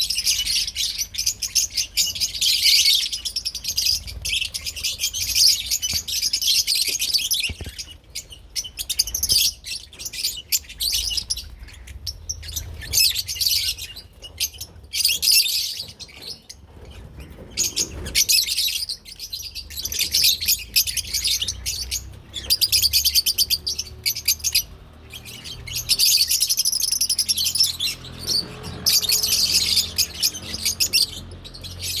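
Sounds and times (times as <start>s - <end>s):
lovebirds chattering: 0.0s - 32.0s.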